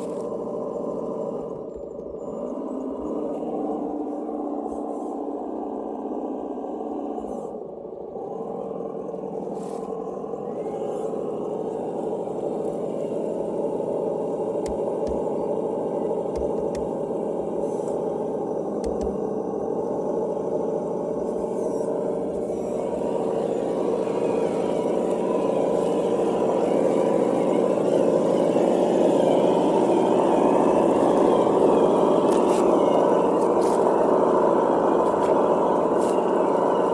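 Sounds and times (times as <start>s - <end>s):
faint wavering whine: 0.0s - 36.9s
simulated engine from small speaker: 0.0s - 36.9s.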